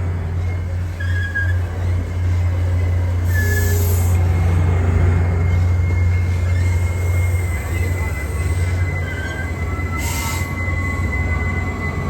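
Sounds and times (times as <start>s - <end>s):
heavy vehicle rumbling: 0.0s - 12.0s.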